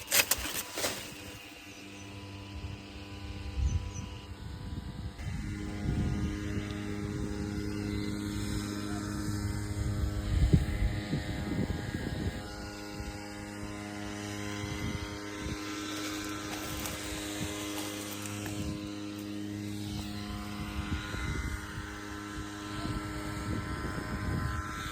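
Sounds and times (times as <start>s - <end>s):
motor humming: 0.0s - 24.9s.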